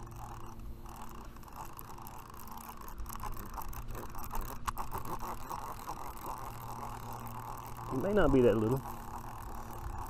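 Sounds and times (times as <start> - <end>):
fishing reel whirring and clicking: 0.0 - 10.0.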